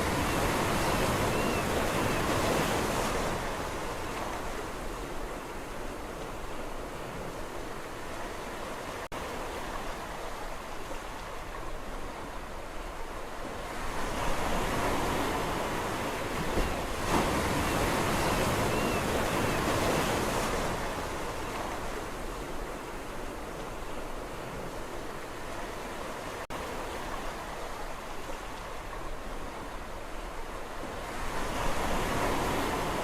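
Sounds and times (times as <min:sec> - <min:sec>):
sea waves washing on shore: 0:00.0 - 0:33.0.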